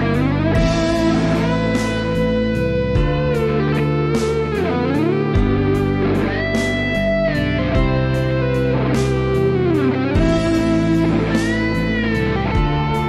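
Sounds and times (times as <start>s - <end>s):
backing track with chords and beat: 0.0s - 13.0s
electric guitar lead melody: 0.0s - 13.0s.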